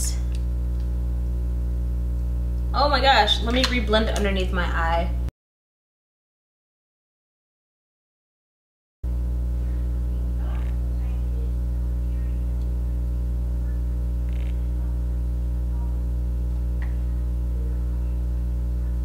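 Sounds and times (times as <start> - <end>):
electrical mains hum: 0.0 - 5.3, 9.1 - 19.0.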